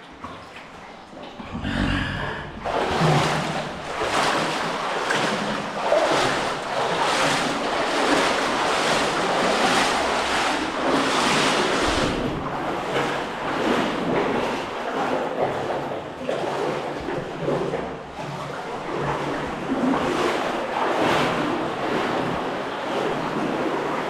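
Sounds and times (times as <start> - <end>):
water sloshing from wading: 0.0 - 24.0.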